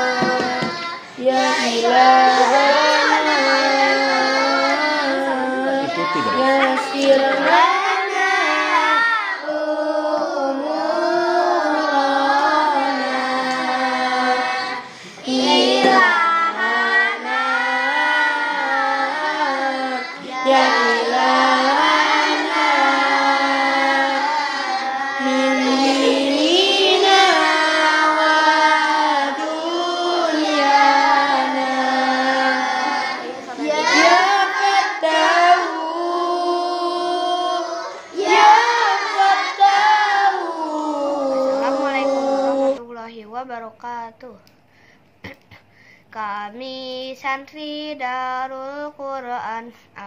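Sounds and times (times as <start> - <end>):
child singing: 0.0 - 42.9, 46.2 - 49.8.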